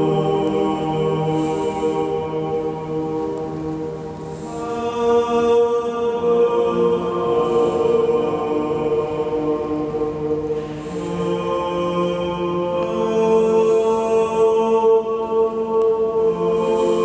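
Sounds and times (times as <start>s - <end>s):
person singing long held notes: 0.0s - 17.0s.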